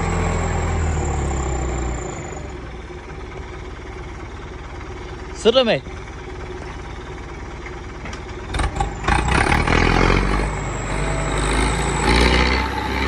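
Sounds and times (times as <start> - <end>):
tractor engine under heavy load: 0.0 - 13.0.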